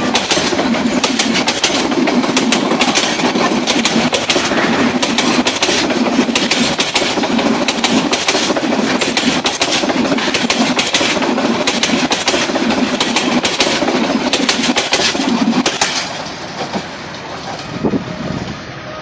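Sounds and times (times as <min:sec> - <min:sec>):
train wheels clattering over rail joints: 0:00.0 - 0:17.8
dull train rumble: 0:00.0 - 0:19.0.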